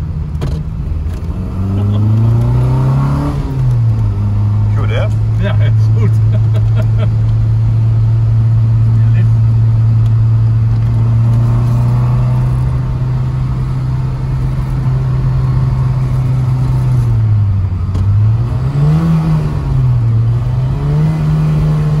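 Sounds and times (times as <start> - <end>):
car engine cruising: 0.0 - 22.0.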